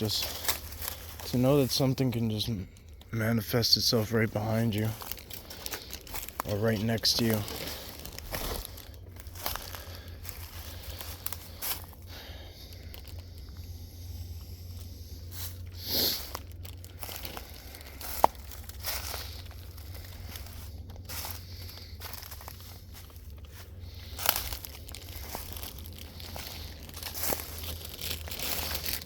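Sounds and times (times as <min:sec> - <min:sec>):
faint rustling and crinkling: 0:00.0 - 0:29.0
low steady rumble: 0:00.0 - 0:29.0.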